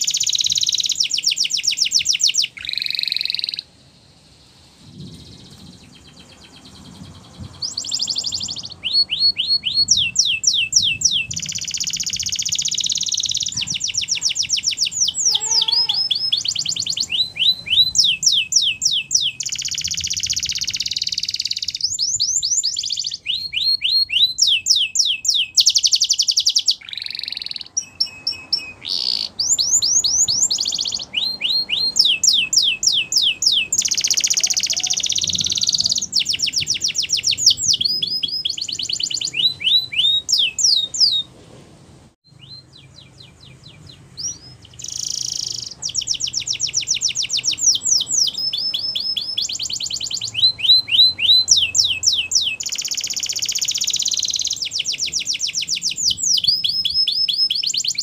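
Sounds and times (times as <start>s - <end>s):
canary singing trills: 0.0s - 41.3s, 42.2s - 58.0s.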